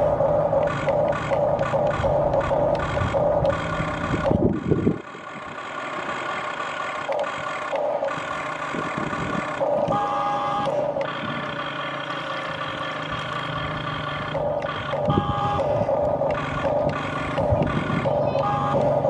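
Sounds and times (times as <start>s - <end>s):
toy excavator motor whine: 0.0s - 19.0s.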